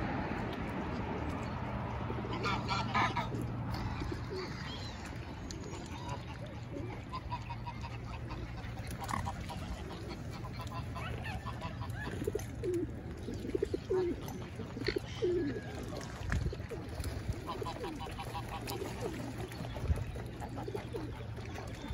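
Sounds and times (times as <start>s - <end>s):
low steady background rumble: 0.0s - 21.9s
waterfowl and pigeons calling: 1.4s - 21.9s.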